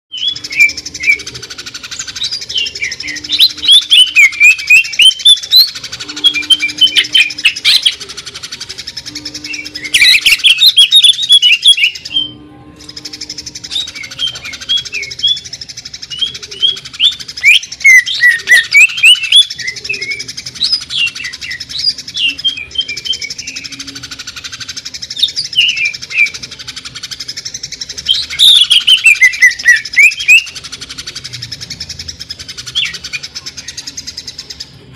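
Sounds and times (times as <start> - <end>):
bird singing sharp chirps and whistles: 0.1 - 34.6.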